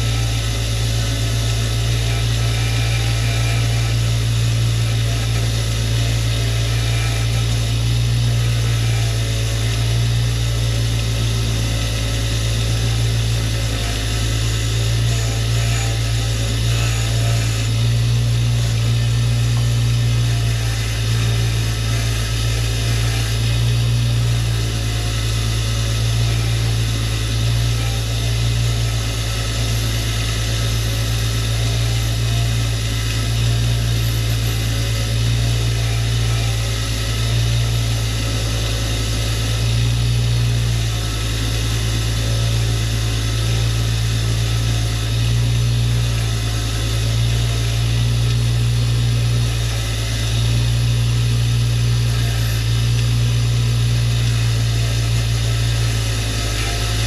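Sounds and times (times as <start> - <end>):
low mechanical drone: 0.0 - 57.0.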